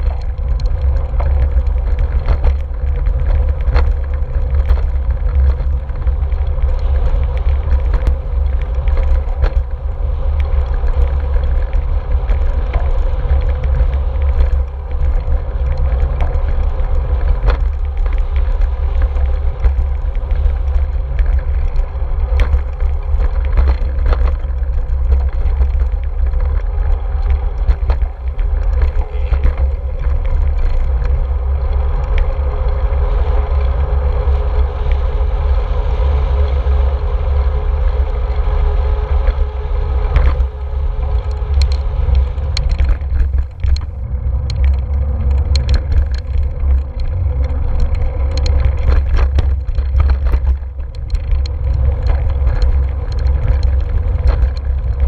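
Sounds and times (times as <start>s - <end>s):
sharp clicks and rattles: 0.0s - 35.2s, 36.3s - 55.0s
bike tyre road noise: 0.0s - 55.0s
wind rumble on microphone: 0.0s - 55.0s.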